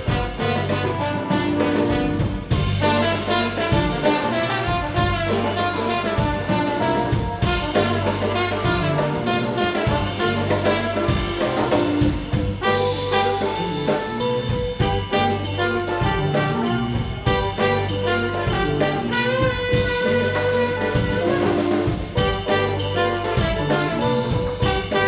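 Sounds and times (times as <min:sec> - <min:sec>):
live blues band playing: 0:00.0 - 0:25.0.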